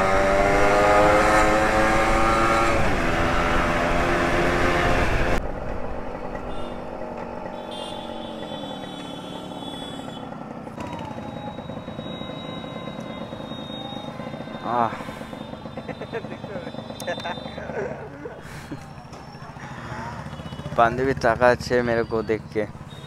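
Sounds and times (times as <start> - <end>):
motorcycle engine accelerating: 0.0 - 21.8.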